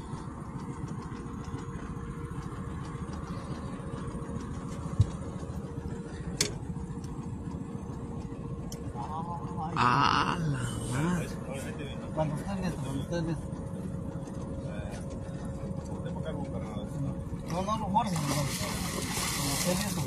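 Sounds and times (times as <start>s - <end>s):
boat motor idling: 0.0s - 20.0s.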